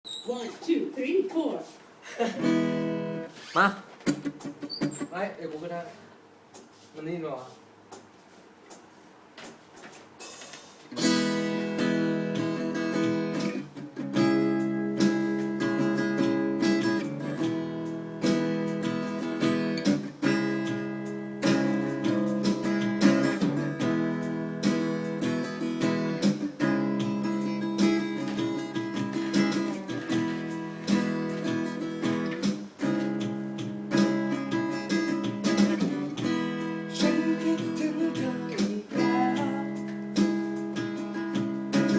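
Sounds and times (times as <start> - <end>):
acoustic guitar strumming: 2.4 - 5.4, 9.7 - 41.9.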